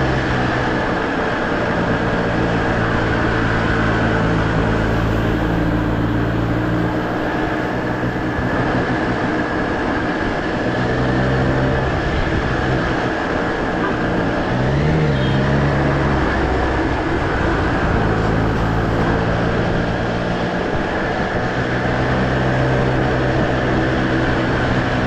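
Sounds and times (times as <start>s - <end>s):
motorcycle engine running: 0.0s - 25.0s
wind noise: 0.0s - 25.0s.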